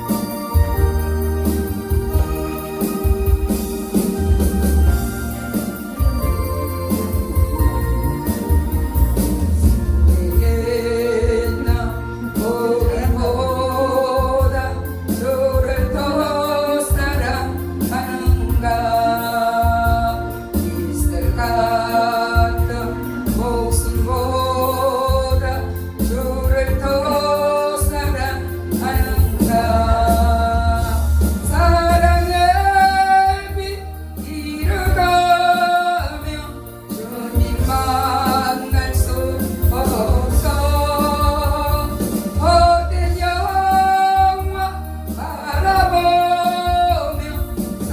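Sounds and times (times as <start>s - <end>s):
accompaniment track with bass beat: 0.0s - 47.9s
person singing gospel song: 0.0s - 47.9s.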